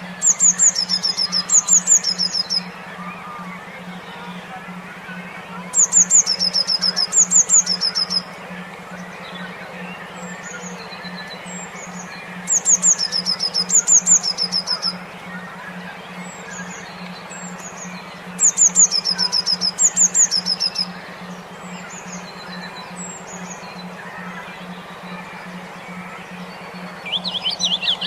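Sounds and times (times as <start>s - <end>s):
faint bird chirps: 0.0s - 28.0s
pulsing low hum: 0.0s - 28.0s
songbird whistling: 0.0s - 28.0s.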